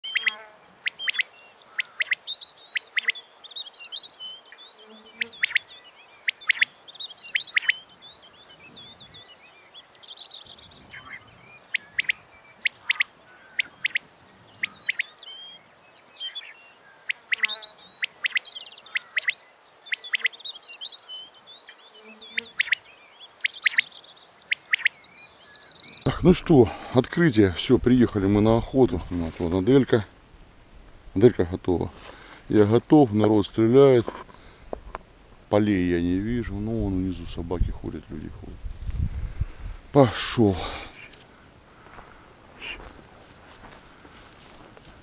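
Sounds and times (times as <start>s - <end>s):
small birds chirping: 0.0s - 30.3s, 31.1s - 45.0s.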